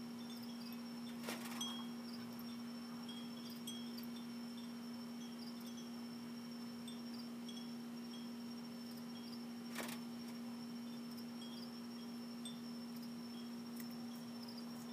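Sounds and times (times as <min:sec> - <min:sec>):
crickets chirping: 0:00.0 - 0:14.9
steady low hum: 0:00.0 - 0:14.9.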